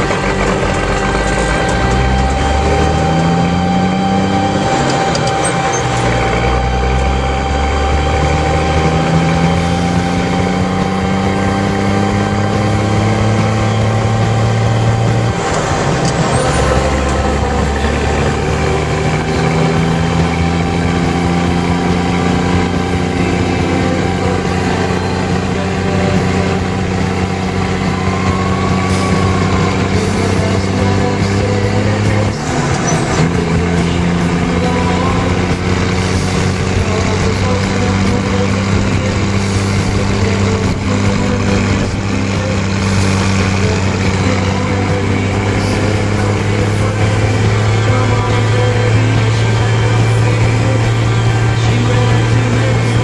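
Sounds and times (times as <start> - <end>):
thin steady whine: 0.0 - 53.0
truck engine accelerating: 0.0 - 53.0.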